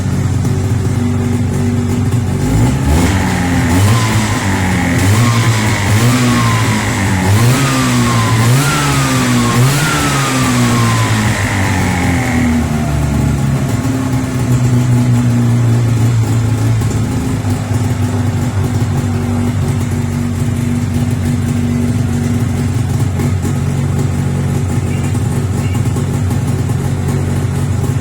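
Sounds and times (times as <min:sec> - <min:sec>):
snowmobile engine running: 0:00.0 - 0:28.0.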